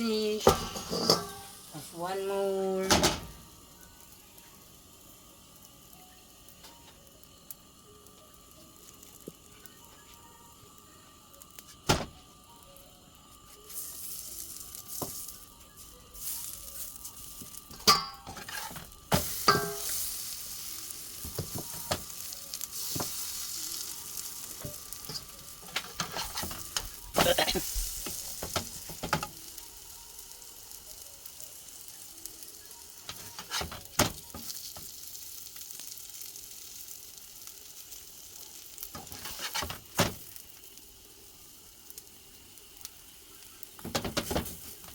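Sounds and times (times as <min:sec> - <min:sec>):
flatbread sizzling on a griddle: 0:00.0 - 0:44.9.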